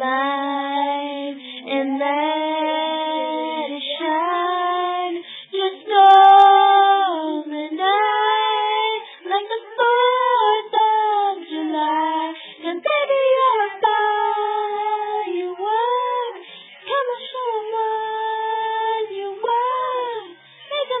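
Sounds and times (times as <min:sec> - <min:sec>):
child singing: 0:00.0 - 0:21.0.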